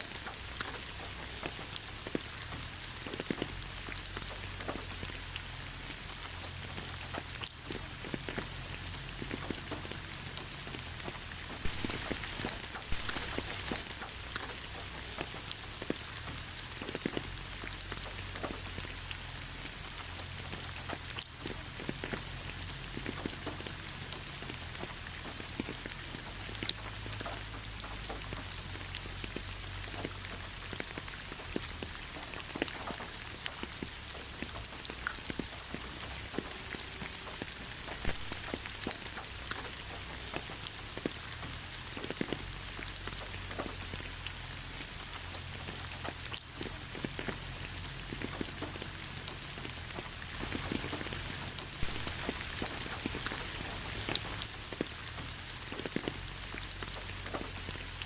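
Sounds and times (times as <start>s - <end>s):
rain drops pattering: 0.0s - 58.0s.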